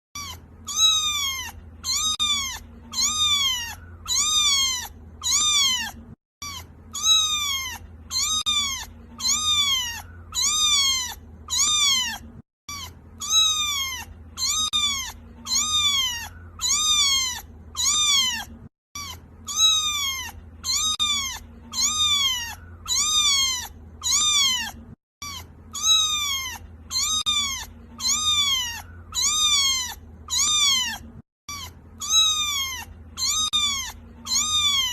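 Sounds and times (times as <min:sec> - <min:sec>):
kitten meowing: 0:00.1 - 0:34.9.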